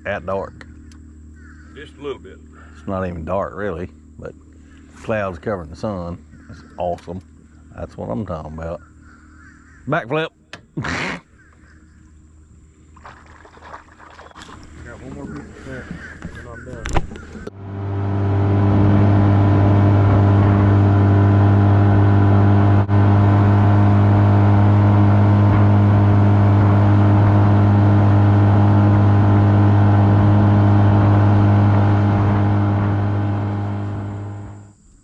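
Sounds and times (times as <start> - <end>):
outboard boat motor humming: 0.0 - 10.0, 10.6 - 34.8.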